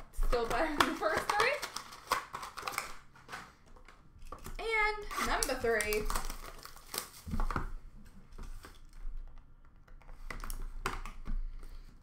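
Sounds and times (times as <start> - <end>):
hands handling card packaging: 0.1 - 12.0.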